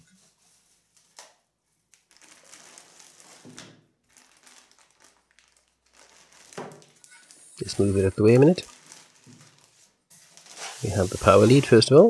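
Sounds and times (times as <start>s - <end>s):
plastic bag crinkling: 1.9s - 11.8s.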